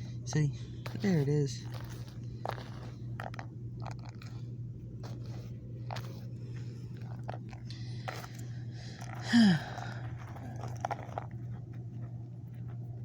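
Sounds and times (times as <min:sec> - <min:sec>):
dirt crunching and scraping: 0:00.0 - 0:13.0
steady low hum: 0:00.0 - 0:13.0.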